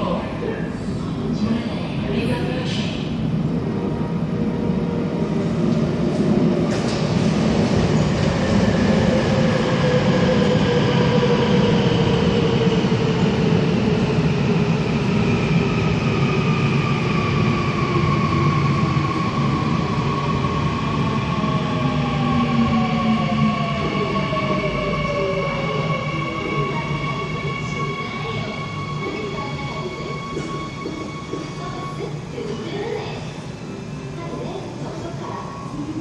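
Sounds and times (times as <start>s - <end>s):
train wheels rumbling on rails: 2.6s - 33.3s.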